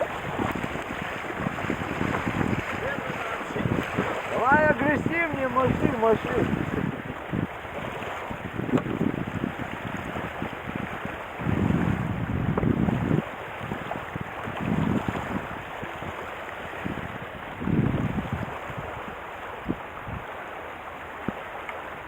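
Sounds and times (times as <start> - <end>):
wind buffeting microphone: 0.0 - 21.6.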